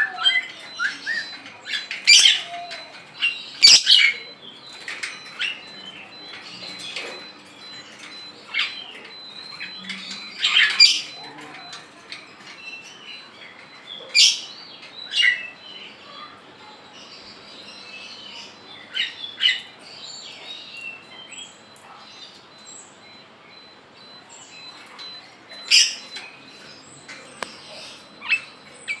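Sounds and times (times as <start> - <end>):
soft twittering chatter: 0.0 - 29.0.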